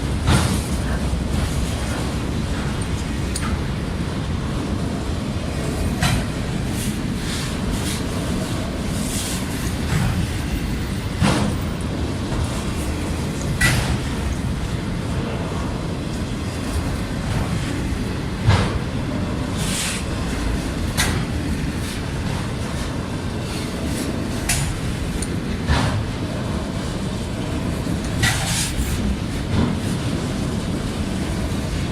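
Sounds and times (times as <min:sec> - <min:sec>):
train wheels rumbling on rails: 0:00.0 - 0:31.9.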